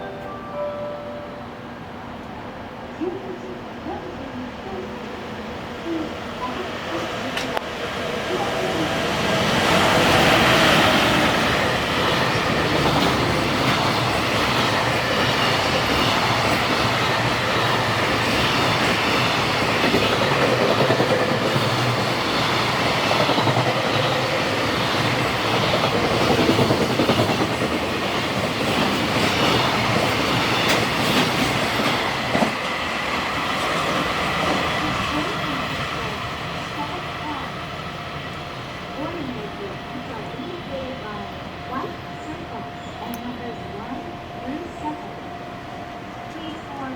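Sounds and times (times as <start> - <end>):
train wheels rolling on rails: 4.6 - 46.9.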